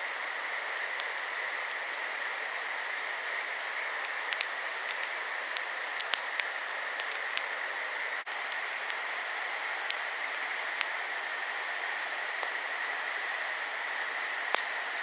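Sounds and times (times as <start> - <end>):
campfire crackling and popping: 0.0 - 15.0
steady rushing hiss: 0.0 - 15.0.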